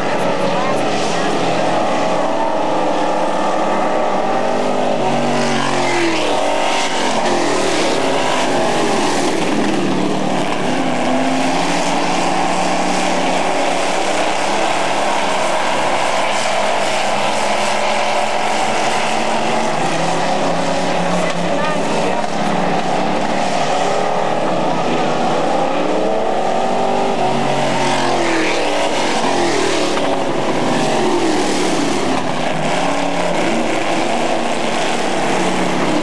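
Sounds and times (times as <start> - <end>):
racing truck engines: 0.0 - 36.0.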